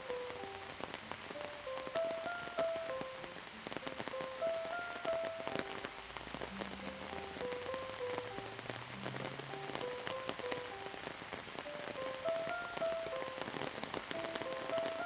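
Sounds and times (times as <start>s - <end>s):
rain drops striking a surface: 0.0s - 15.0s
soft instrumental melody: 0.0s - 15.0s.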